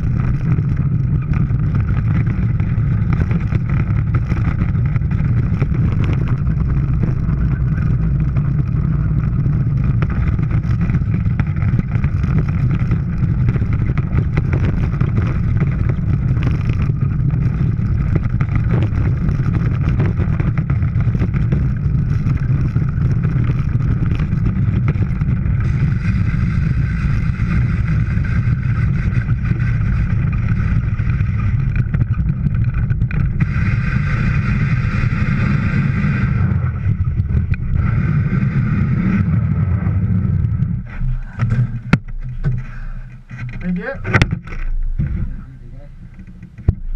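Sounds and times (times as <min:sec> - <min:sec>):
sled body rattling: 0:00.0 - 0:46.9
sled runners rumbling on ice: 0:00.0 - 0:46.9.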